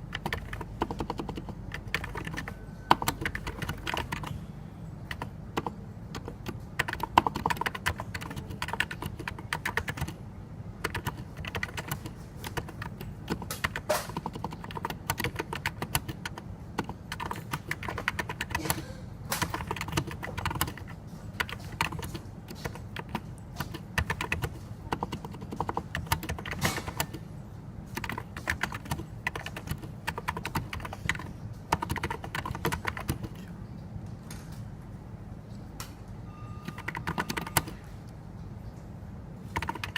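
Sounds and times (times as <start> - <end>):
keyboard typing: 0.0 - 34.1, 36.6 - 38.2, 39.3 - 39.9
steady low hum: 0.0 - 39.9.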